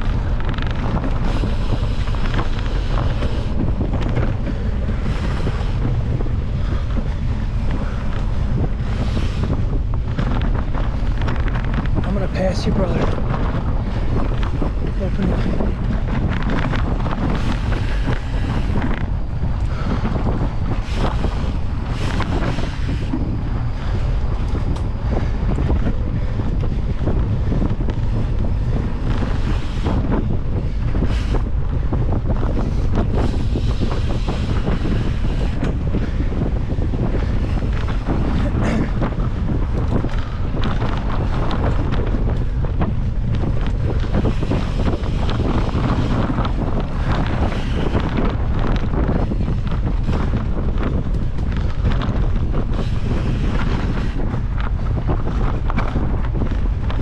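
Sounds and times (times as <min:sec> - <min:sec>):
bike clicks and rattles: 0:00.0 - 0:57.0
wind rushing over microphone: 0:00.0 - 0:57.0.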